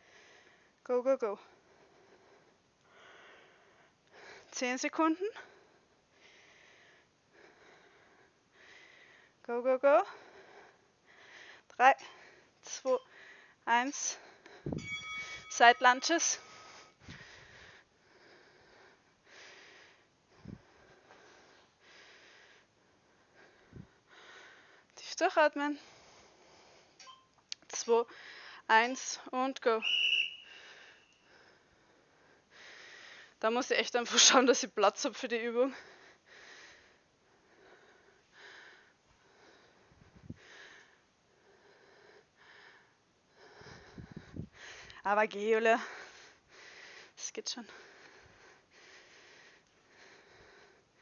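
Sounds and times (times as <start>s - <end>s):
woman breathing heavily: 0.0s - 0.8s, 1.4s - 4.6s, 5.2s - 27.0s, 28.0s - 28.7s, 30.4s - 33.4s, 35.6s - 51.0s.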